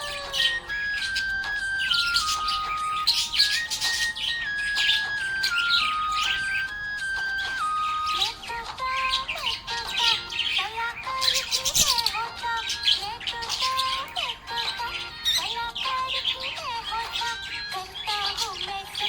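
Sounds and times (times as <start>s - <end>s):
background music with simple melody: 0.0s - 19.0s
budgerigar chirping and warbling: 0.0s - 19.0s.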